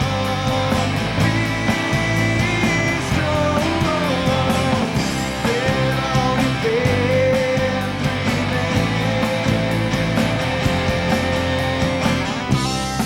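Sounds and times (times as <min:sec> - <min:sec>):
bending lead guitar line: 0:00.0 - 0:13.0
instrumental rock band: 0:00.0 - 0:13.0.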